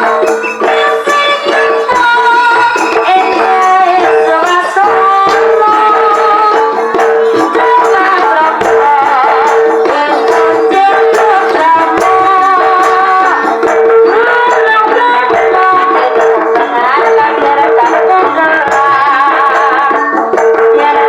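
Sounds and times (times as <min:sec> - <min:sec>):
wavering melody over held note: 0:00.0 - 0:20.7
percussion: 0:00.0 - 0:21.0.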